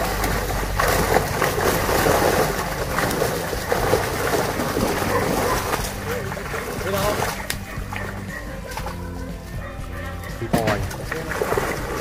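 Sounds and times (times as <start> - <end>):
fish splashing in net: 0.0 - 9.2, 10.4 - 12.0.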